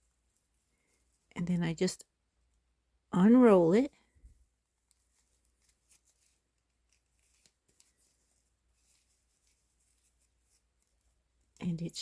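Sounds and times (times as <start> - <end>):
soft rustles of doll wig: 0.0 - 12.0.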